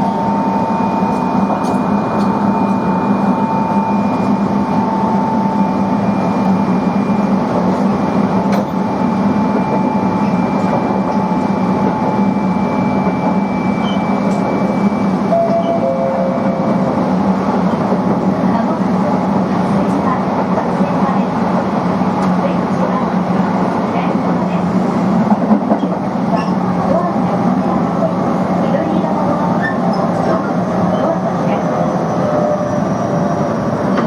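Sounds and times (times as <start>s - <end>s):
electric train rolling: 0.0s - 34.0s.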